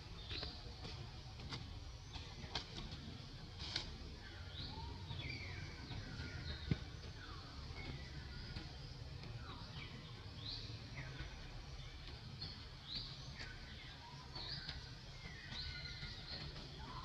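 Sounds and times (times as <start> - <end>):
birds chirping: 0.0 - 17.0
low outdoor rumble: 0.0 - 17.0.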